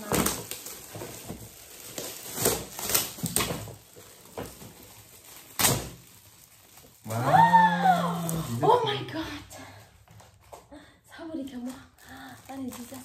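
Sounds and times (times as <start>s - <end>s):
wrapping paper ripping: 0.0s - 10.5s, 11.5s - 13.0s
foil gift wrap crinkling: 0.0s - 13.0s.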